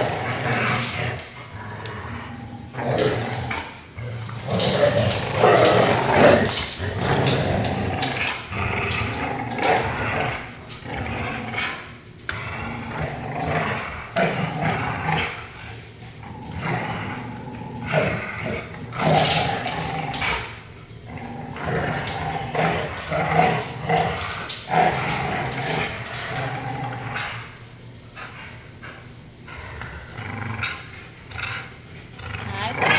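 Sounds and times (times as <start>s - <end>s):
dogs growling and snarling: 0.0s - 32.9s.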